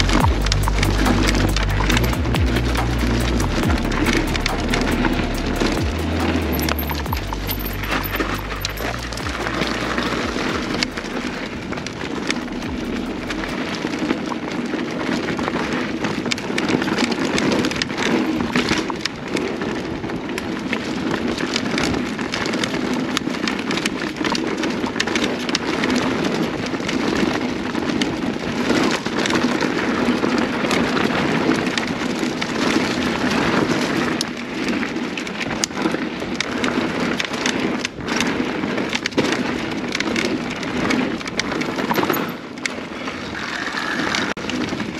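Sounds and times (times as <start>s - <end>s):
bike rattling over bumps: 0.0s - 44.9s
bike tyres on dirt: 0.0s - 44.9s.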